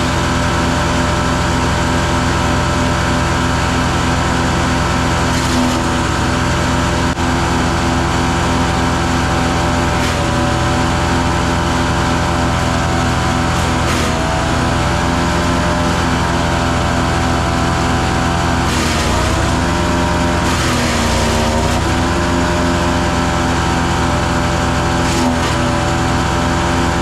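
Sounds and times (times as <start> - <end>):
engine running at high speed: 0.0 - 27.0.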